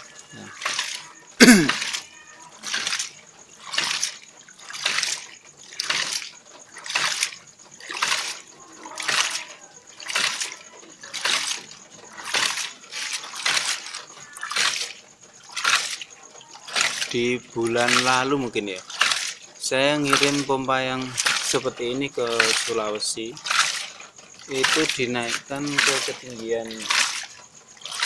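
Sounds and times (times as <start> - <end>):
water gushing from pump valve: 0.0 - 28.0
water hammer: 0.0 - 28.0.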